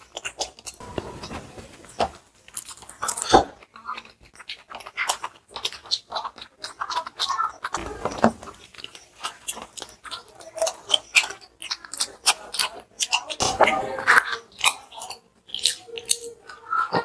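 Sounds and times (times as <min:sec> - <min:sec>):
close-up chewing and biting: 0:00.0 - 0:13.5, 0:14.1 - 0:17.0.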